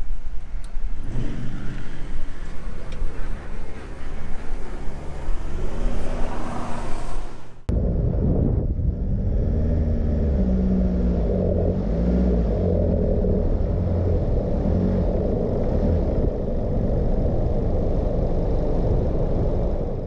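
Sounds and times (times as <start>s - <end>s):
vehicle engine and drivetrain rumble: 0.0s - 20.0s.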